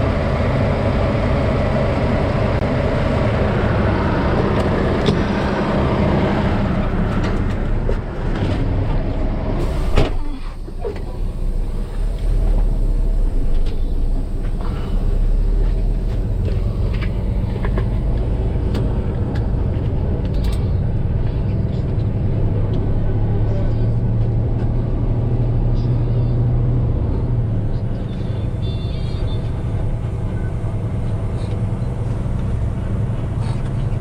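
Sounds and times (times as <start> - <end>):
truck engine running: 0.0 - 34.0.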